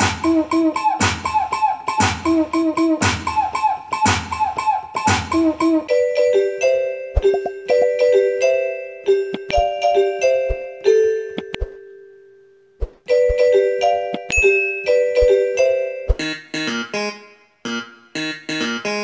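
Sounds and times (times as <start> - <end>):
light melody with clicking beat: 0.0 - 11.8, 13.0 - 16.9.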